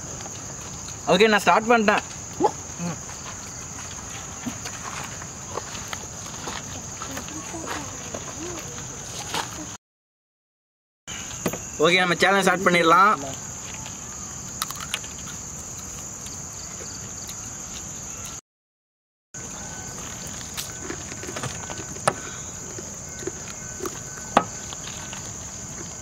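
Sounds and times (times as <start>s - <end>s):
crickets chirring: 0.0s - 9.8s, 11.1s - 18.4s, 19.4s - 26.0s.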